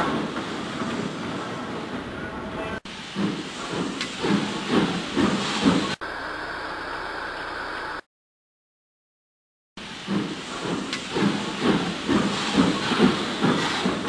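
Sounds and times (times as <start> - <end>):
model train rumbling on track: 0.0 - 8.0, 9.8 - 14.0.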